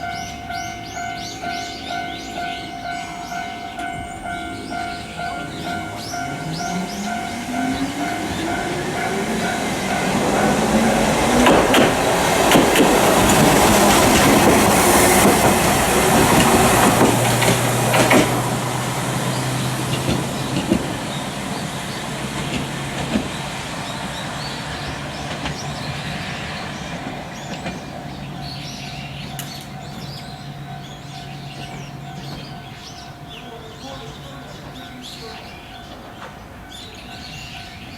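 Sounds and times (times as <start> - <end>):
tram hum: 0.0 - 37.9
tram wheels rumbling on rails: 0.0 - 37.9.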